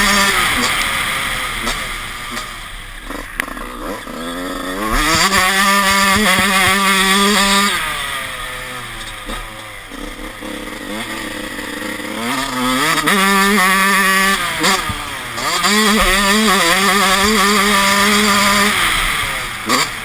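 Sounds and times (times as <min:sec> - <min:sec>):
motocross engine accelerating: 0:00.0 - 0:20.0.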